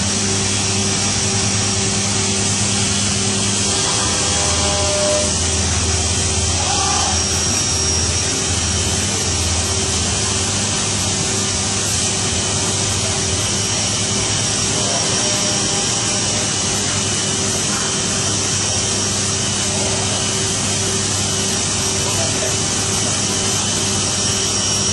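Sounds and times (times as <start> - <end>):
machine hum: 0.0 - 24.9
faint high whine: 0.9 - 21.0.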